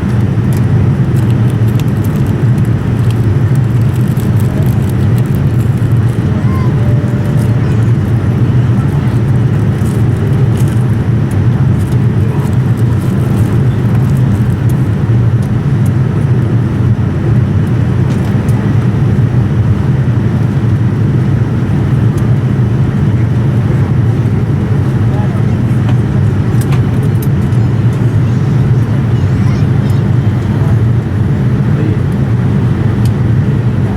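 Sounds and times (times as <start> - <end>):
airliner cabin rumble: 0.0 - 33.9.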